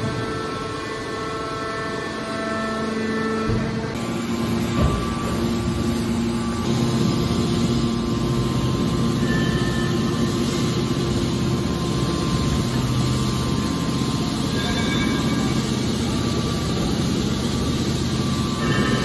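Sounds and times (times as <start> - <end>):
hydraulic machine humming: 0.0 - 19.0.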